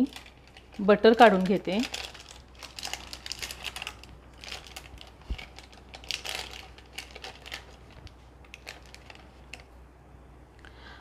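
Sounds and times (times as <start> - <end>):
wrapper crinkling: 0.0 - 9.7.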